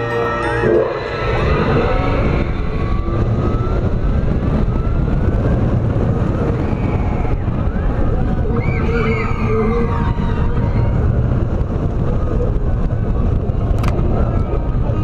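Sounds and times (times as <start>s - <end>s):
rush of wind: 0.0s - 15.0s
wheels rumbling on track: 0.0s - 15.0s.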